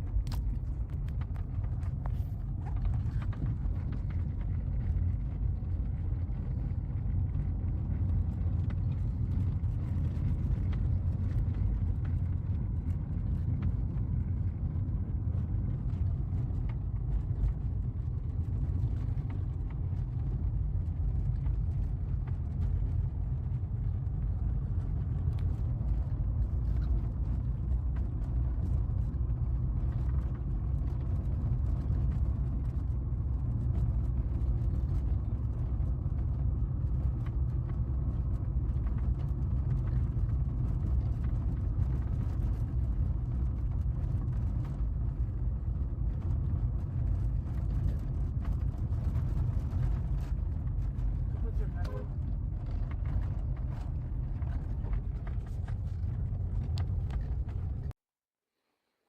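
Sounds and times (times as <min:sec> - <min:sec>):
car rumbling while moving: 0:00.0 - 0:58.0
faint clicks and rattles: 0:00.0 - 0:58.0.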